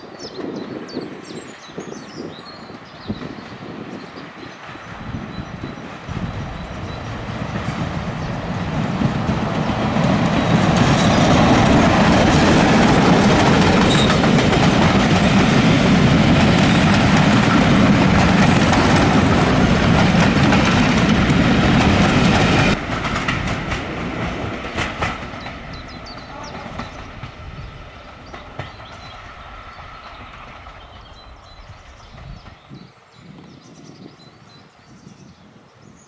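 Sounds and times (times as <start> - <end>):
train passing close by: 0.0 - 36.0.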